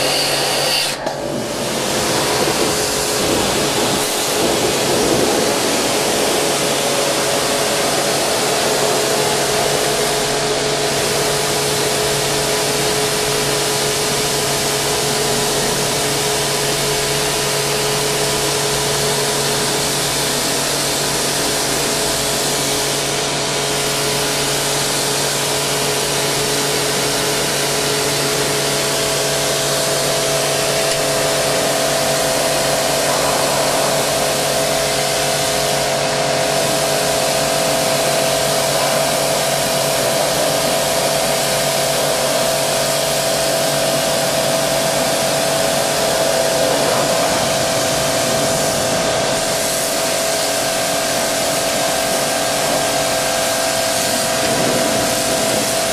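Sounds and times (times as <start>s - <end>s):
pressure washer hum: 0.0s - 55.9s
pressure washer water jet hiss: 0.0s - 55.9s.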